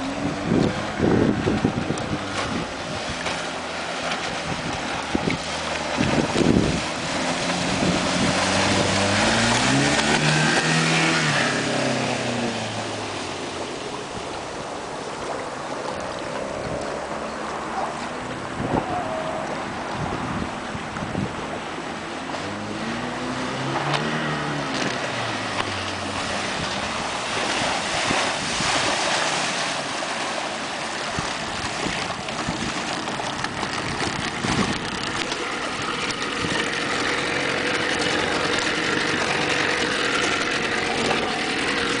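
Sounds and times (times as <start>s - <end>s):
outboard motor running: 0.0s - 42.0s
rush of water and wind: 0.0s - 42.0s.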